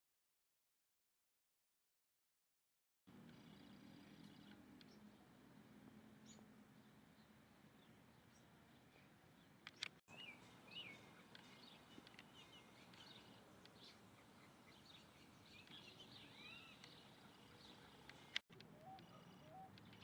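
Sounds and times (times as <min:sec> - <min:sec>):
small birds twittering: 0:03.1 - 0:20.0.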